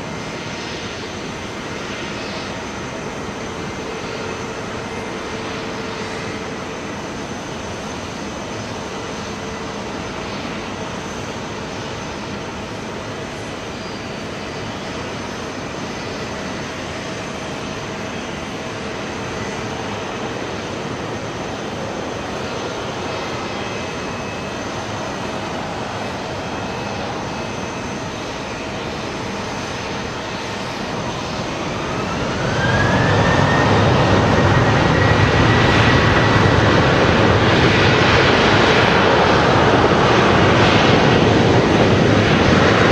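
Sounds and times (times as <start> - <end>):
jet engines roaring and whining: 0.0 - 42.9.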